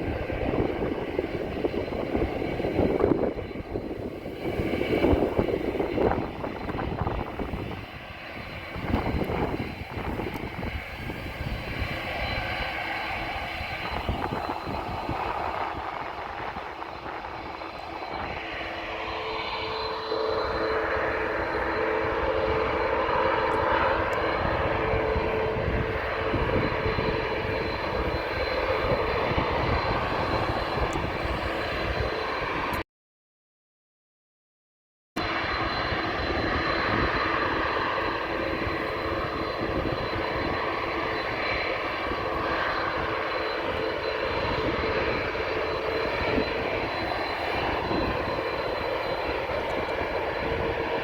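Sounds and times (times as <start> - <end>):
jet engines rushing: 0.0 - 32.8, 35.2 - 51.0.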